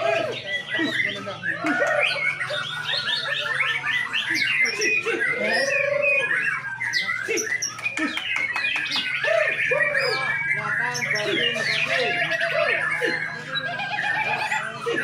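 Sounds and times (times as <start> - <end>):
birds singing whistles and trills: 0.0 - 15.0.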